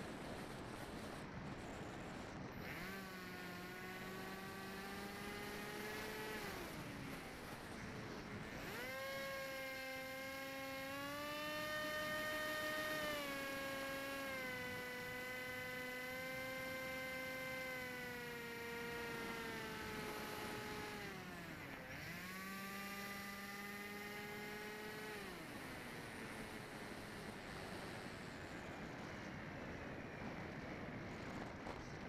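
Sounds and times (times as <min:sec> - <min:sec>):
electric motor and propeller whining: 0:00.0 - 0:32.0.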